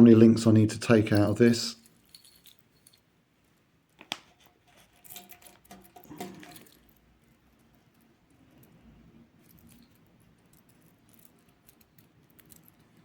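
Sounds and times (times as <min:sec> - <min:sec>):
watch bracelet clinking: 0:01.0 - 0:03.1, 0:03.9 - 0:13.0.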